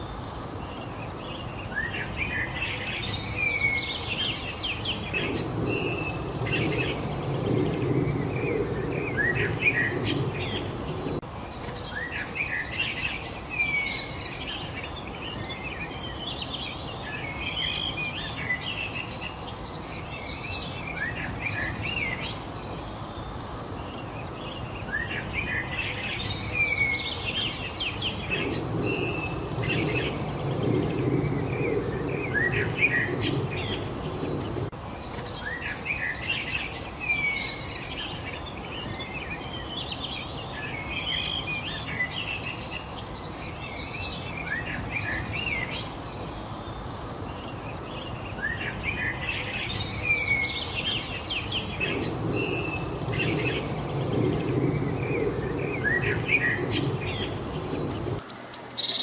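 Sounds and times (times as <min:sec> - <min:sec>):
songbirds chirping and singing: 0:00.0 - 0:59.0
steady background hiss: 0:00.0 - 0:59.0
low rumbling noise: 0:00.1 - 0:58.5.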